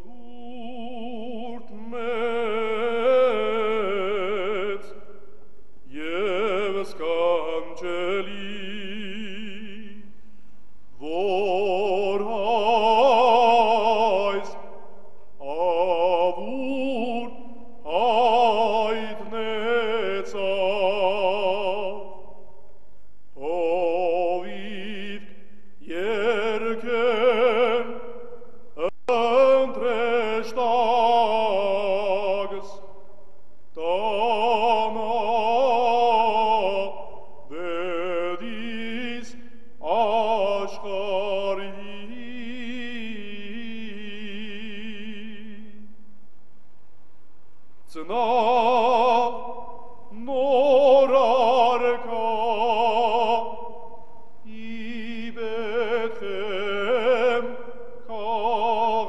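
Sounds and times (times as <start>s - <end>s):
person singing with vibrato: 0.0s - 46.0s, 47.8s - 59.0s.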